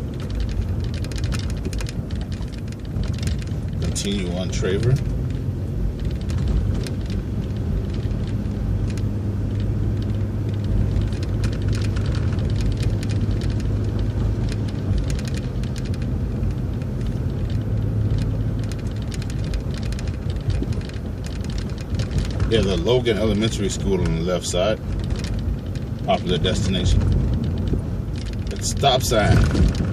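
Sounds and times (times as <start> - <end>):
bus engine drone: 0.0 - 29.9
rattles and clicks from bus body: 0.0 - 29.9
road noise: 0.0 - 29.9.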